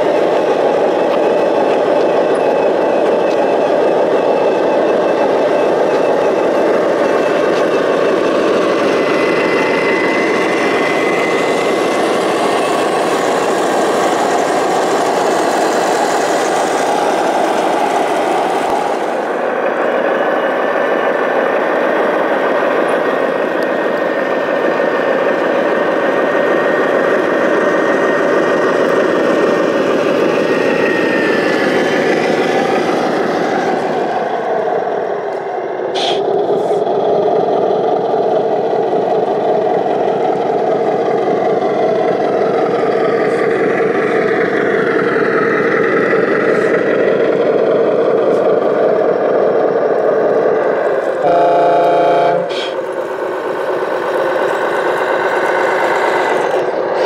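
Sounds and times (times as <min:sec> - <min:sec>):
model truck engine sound: 0:00.0 - 0:57.0.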